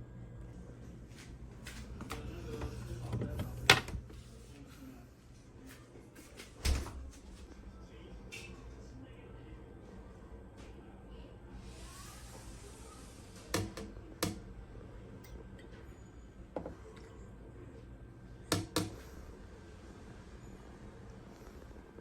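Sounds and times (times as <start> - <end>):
faint steady hum: 0.0 - 6.1, 7.5 - 22.0.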